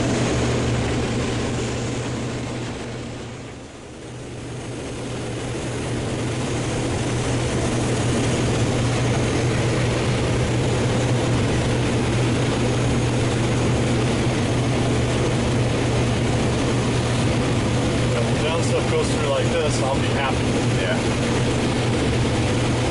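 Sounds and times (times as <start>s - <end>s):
combine harvester engine hum: 0.0s - 22.9s.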